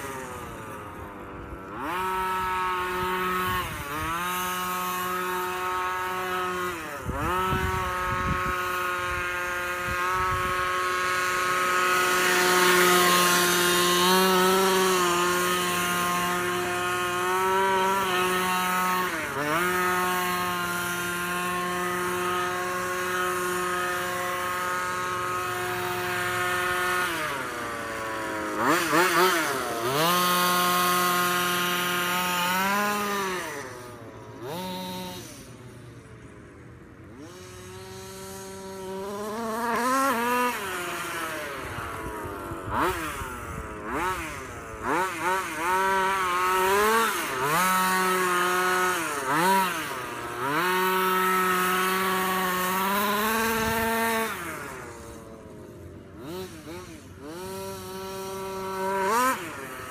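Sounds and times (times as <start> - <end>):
buzzing two-stroke engine revving: 0.0 - 59.9.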